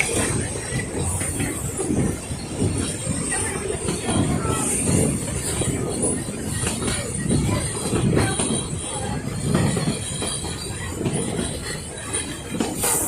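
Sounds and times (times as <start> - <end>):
train carriages rumbling on track: 0.0 - 13.0.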